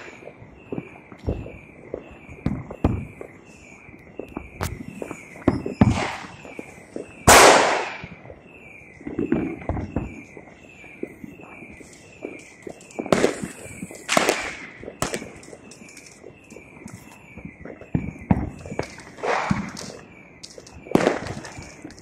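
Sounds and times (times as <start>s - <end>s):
fireworks and firecrackers banging: 0.0s - 22.0s.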